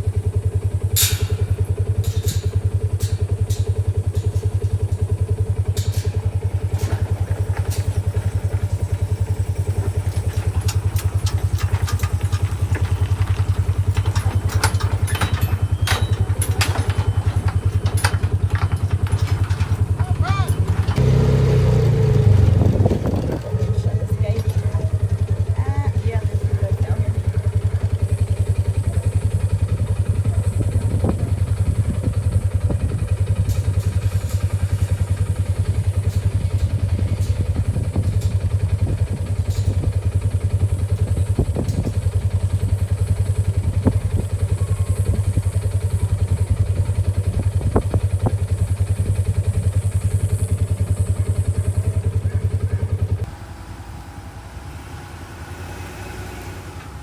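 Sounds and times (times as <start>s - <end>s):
knocks and clatter: 0.0s - 53.6s
engine running steadily: 0.0s - 57.0s.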